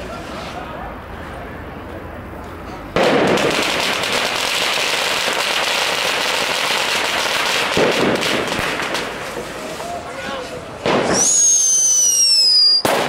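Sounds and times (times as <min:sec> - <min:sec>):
firecrackers crackling: 0:00.0 - 0:13.0.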